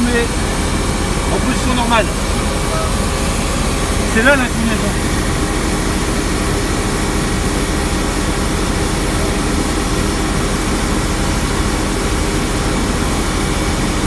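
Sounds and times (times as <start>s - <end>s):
street sweeper engine drone: 0.0s - 14.0s.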